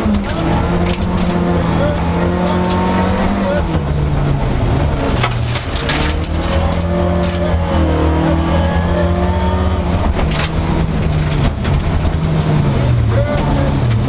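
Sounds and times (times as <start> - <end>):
rally car engine running hard: 0.0 - 14.0
tyres rushing on gravel: 0.0 - 14.0.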